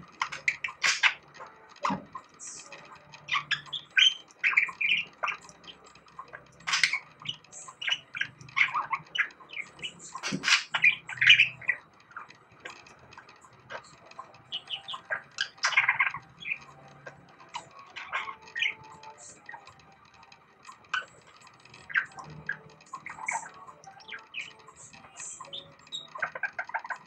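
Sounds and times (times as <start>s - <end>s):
budgerigar warbling and chattering: 0.2s - 1.3s, 1.9s - 19.7s, 21.8s - 27.0s.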